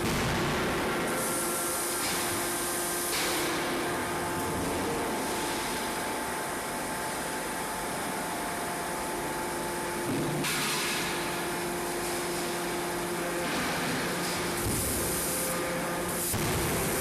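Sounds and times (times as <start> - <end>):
forging machinery running: 0.0 - 17.0.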